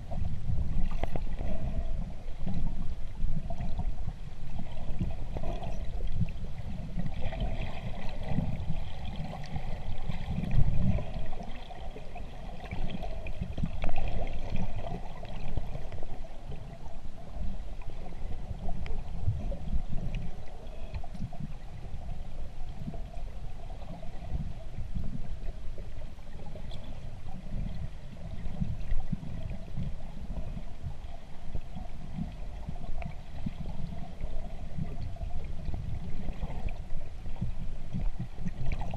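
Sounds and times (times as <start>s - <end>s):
underwater rumble and gurgle: 0.0s - 38.9s.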